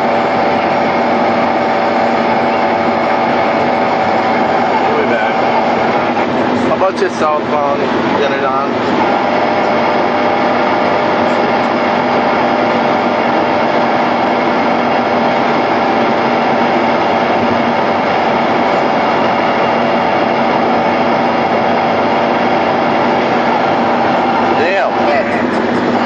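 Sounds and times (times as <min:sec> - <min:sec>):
car interior road drone: 0:00.0 - 0:26.0.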